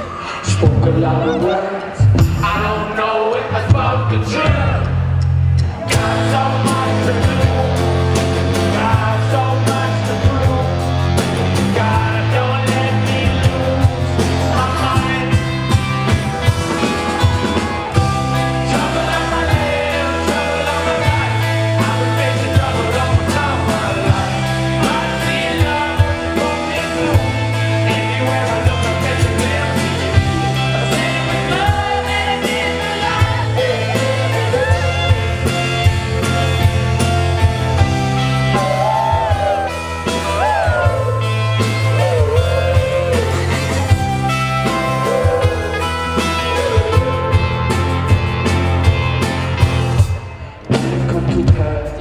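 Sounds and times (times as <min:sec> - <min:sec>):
man singing lead vocals: 0:00.0 - 0:48.6, 0:50.7 - 0:52.0
electric guitars: 0:00.0 - 0:52.0
live rock band: 0:00.0 - 0:52.0
drum beat: 0:02.0 - 0:52.0.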